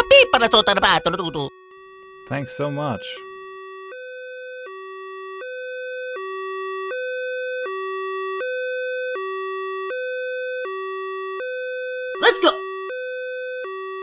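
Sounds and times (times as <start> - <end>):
two-tone police siren: 0.0 - 14.0.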